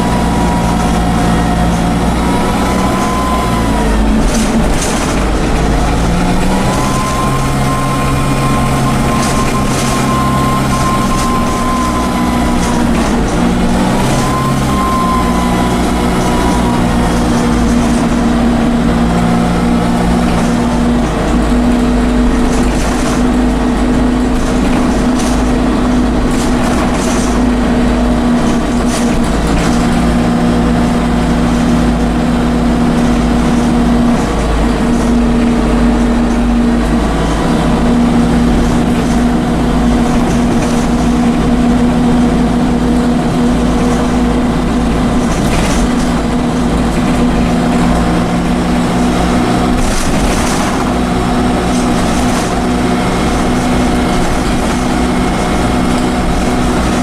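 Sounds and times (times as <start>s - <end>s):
bus diesel engine drone: 0.0s - 57.0s
turbo whine: 0.0s - 57.0s
rattling clicks: 0.2s - 57.0s.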